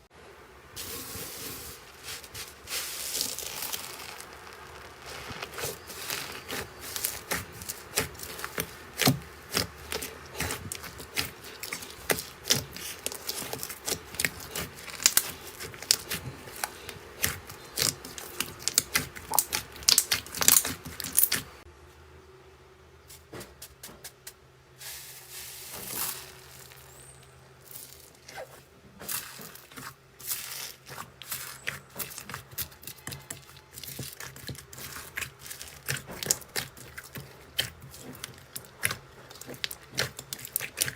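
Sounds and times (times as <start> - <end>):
slime squished by hand: 0.8 - 21.6, 27.7 - 40.9.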